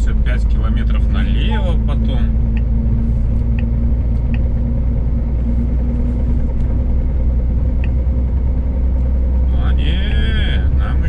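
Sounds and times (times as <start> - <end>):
road rumble: 0.0 - 11.0
truck diesel engine drone: 0.0 - 11.0.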